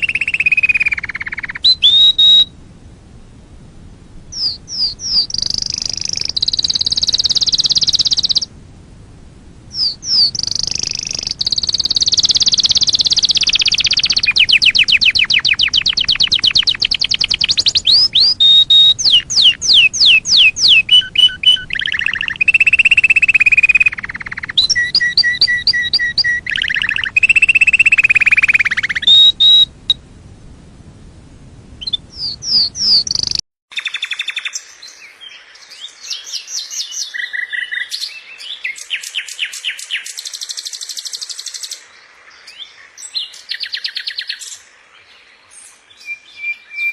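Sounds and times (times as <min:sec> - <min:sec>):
songbird singing: 0:00.0 - 0:02.6, 0:03.9 - 0:08.6, 0:09.6 - 0:30.0, 0:31.8 - 0:46.9.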